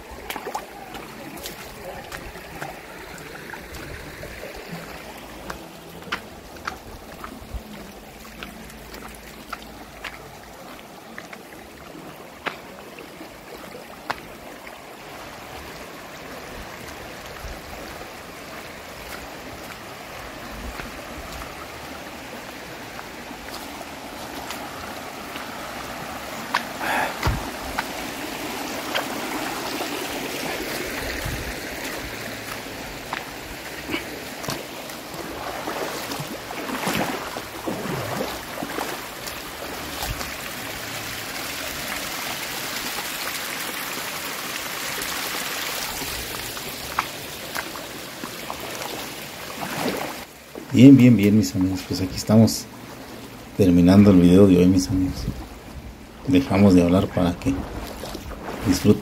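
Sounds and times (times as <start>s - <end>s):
creek rushing over rocks: 0.0s - 59.0s.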